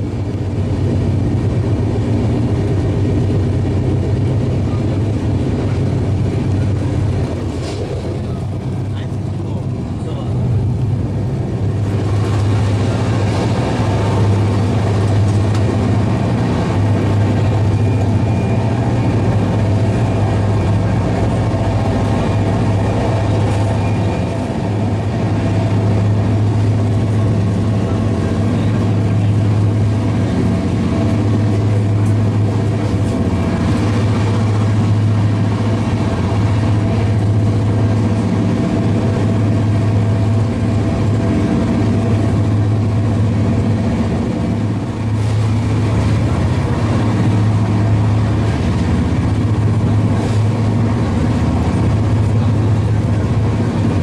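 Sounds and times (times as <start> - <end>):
constant low hum: 0.0 - 54.0
train wheels on rail: 0.0 - 54.0.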